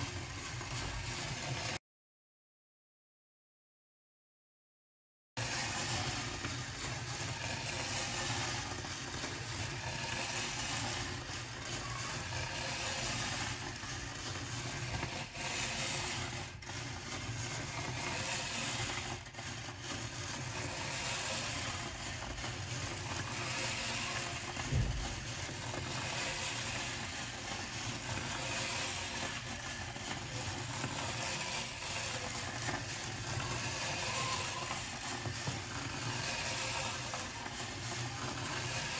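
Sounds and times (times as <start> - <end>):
mechanical running noise: 0.0 - 1.8, 5.4 - 38.9.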